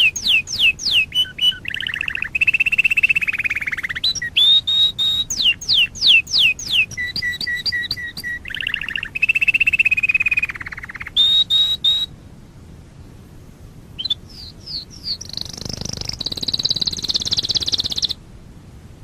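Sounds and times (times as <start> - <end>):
canary singing: 0.0 - 12.1, 14.0 - 18.2.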